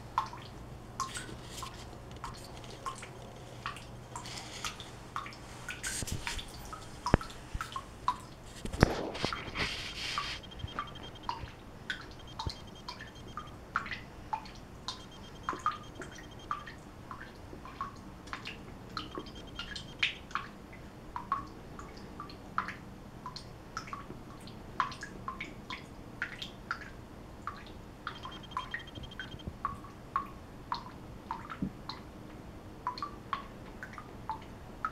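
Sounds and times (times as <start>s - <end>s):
water dripping into sink: 0.1s - 1.3s, 2.2s - 8.8s, 10.4s - 32.0s, 32.8s - 34.9s.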